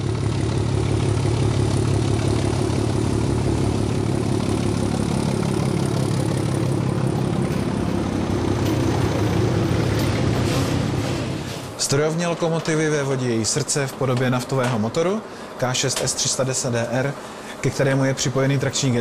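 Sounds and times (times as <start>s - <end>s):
diesel locomotive engine: 0.0s - 19.0s
train rolling noise: 1.2s - 19.0s.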